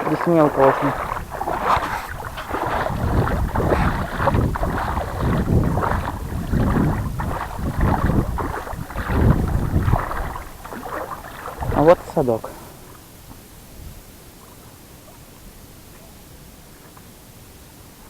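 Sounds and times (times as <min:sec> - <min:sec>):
wind buffeting microphone: 0:00.0 - 0:16.4
legs wading through water: 0:00.0 - 0:18.0.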